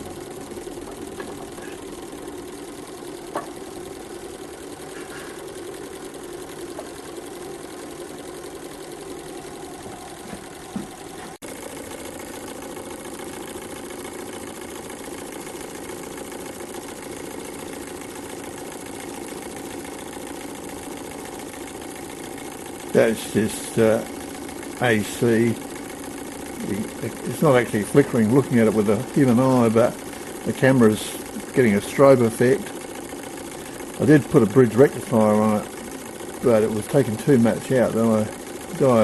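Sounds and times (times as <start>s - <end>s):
small engine running steadily: 0.0s - 39.0s.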